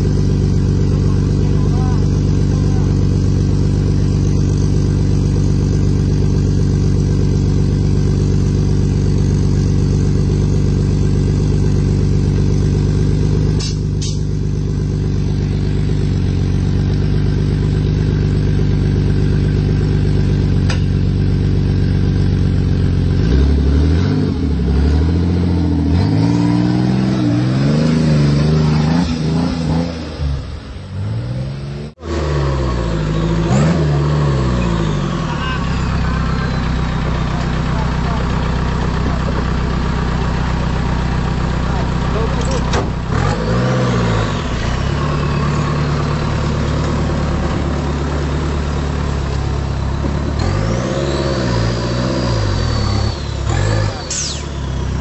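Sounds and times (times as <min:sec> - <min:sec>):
car engine running and revving: 0:00.0 - 0:55.0.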